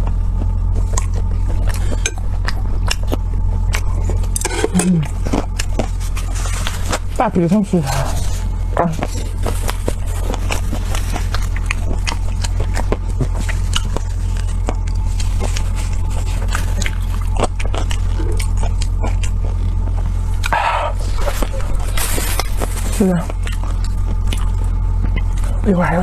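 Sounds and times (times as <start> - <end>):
crunchy bites: 0.0 - 25.8
low hum: 0.0 - 26.0
scraping: 3.1 - 25.6.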